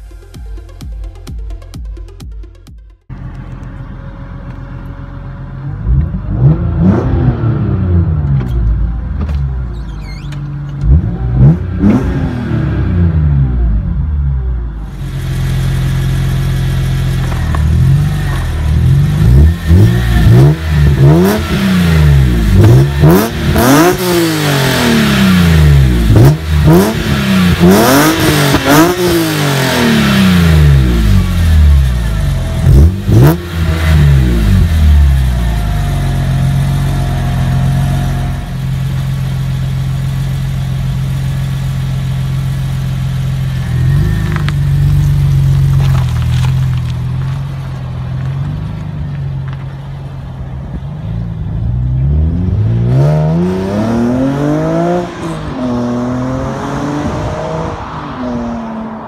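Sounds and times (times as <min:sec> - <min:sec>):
car engine revving and idling: 0:02.1 - 0:59.0.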